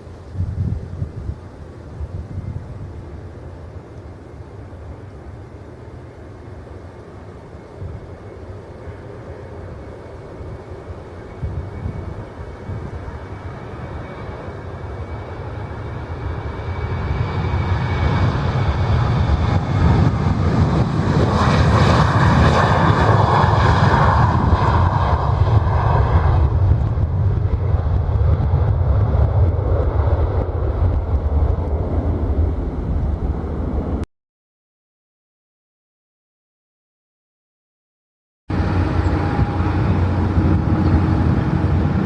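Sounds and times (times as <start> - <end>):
jet airliner engines passing: 0.0 - 34.1, 38.5 - 42.0.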